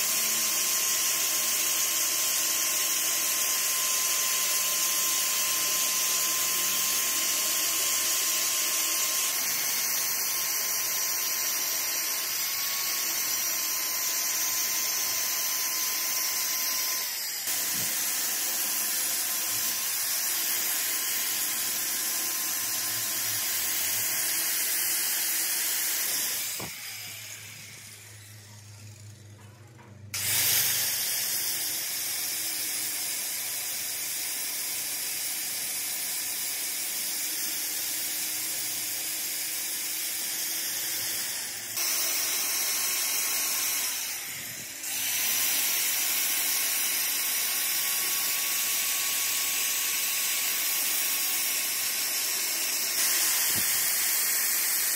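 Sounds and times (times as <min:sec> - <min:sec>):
angle grinder grinding steel: 0:00.0 - 0:29.2, 0:38.5 - 0:54.9.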